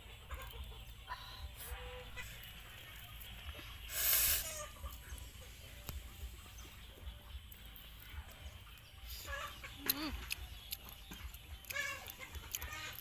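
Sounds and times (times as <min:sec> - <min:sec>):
chickens clucking faintly: 0:00.0 - 0:13.0.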